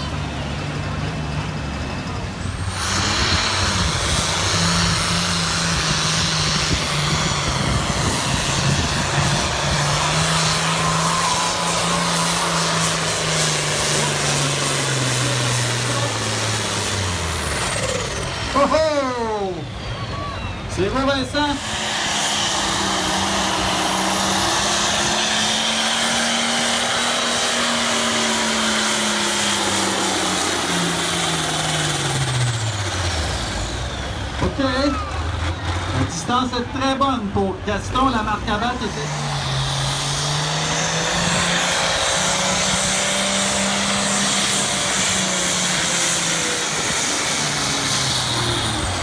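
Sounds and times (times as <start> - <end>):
tractor engine at full throttle: 0.0 - 49.0.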